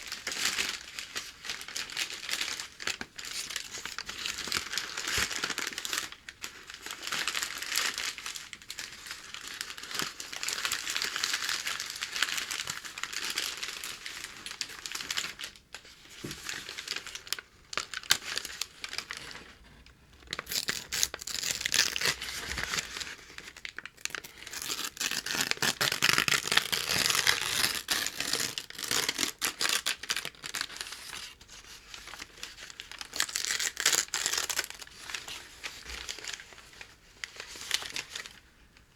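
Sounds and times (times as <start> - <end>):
paper crinkling and tearing: 0.0 - 38.4.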